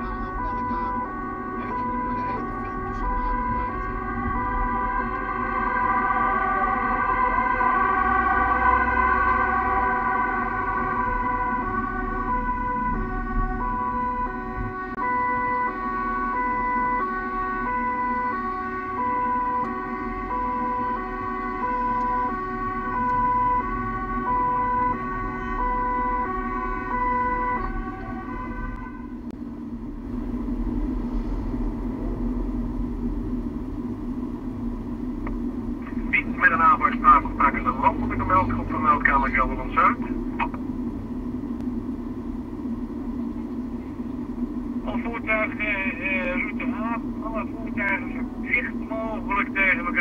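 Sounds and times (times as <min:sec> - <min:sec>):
two-tone emergency siren: 0:00.0 - 0:29.4, 0:35.6 - 0:40.6, 0:43.0 - 0:50.0
vehicle and road rumble: 0:00.0 - 0:50.0.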